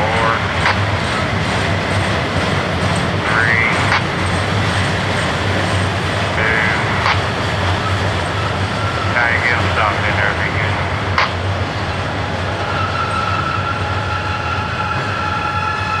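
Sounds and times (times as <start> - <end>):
low hum: 0.0 - 13.2
train rumbling along track: 0.0 - 16.0.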